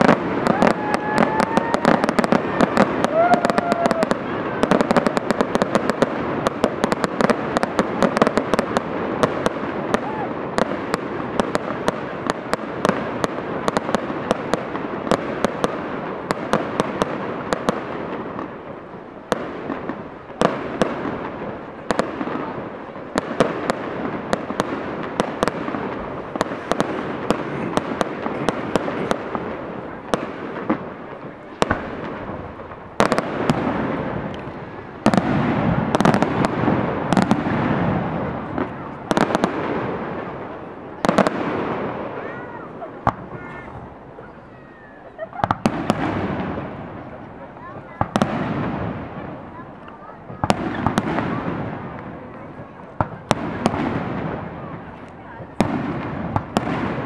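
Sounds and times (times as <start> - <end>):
fireworks bangs and pops: 0.0 - 57.0
fireworks rushing hiss: 0.0 - 57.0.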